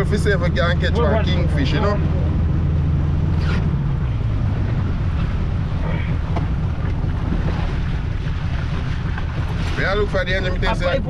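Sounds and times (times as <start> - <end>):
low rumble: 0.0 - 11.0
water rushing past boat: 0.0 - 11.0
wind buffeting microphone: 0.0 - 11.0.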